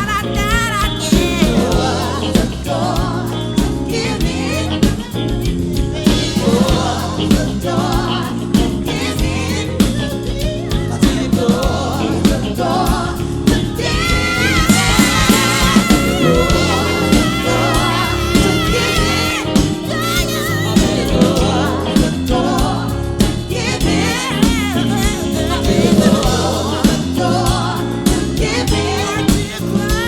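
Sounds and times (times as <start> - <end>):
live soul band playing: 0.0 - 30.0
singers harmonising: 0.0 - 30.0.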